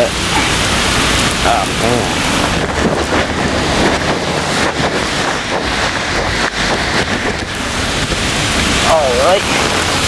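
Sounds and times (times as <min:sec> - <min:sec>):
heavy rain pouring: 0:00.0 - 0:10.0
wind buffeting microphone: 0:00.5 - 0:10.0.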